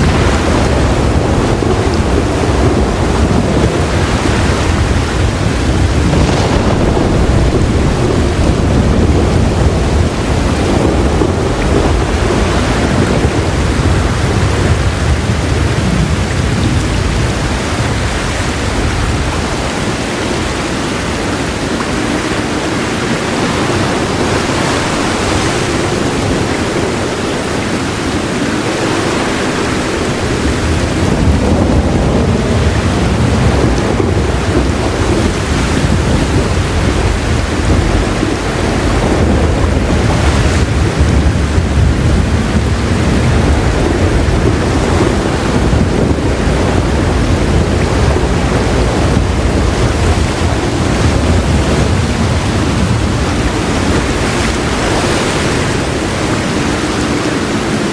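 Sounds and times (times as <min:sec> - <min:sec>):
deep thunder rumble: 0:00.0 - 0:57.9
heavy rain pouring: 0:00.0 - 0:57.9.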